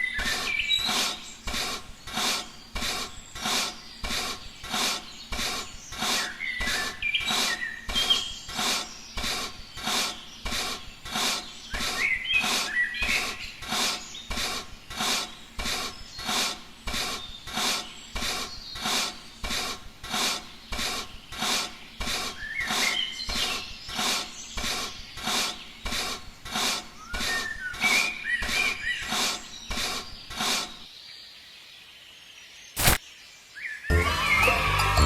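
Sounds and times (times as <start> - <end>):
birds chirping: 0.0 - 35.0
rhythmic rasping strokes: 0.2 - 30.8.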